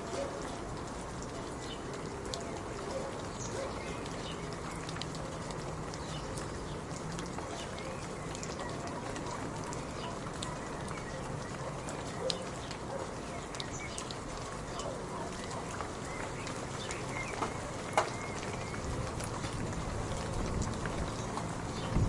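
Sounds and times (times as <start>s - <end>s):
rain drops ticking: 0.0s - 22.0s.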